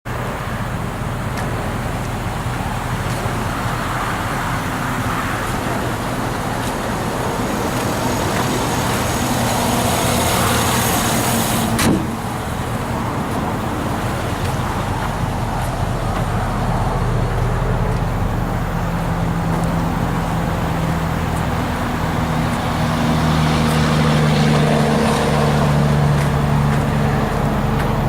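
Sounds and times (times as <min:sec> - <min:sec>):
road traffic noise: 0:00.0 - 0:28.0
vehicle engine running: 0:00.1 - 0:28.0.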